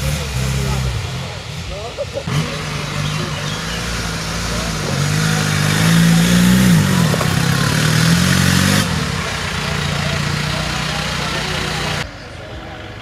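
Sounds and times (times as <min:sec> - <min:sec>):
off-road vehicle engine revving: 0:00.0 - 0:12.2.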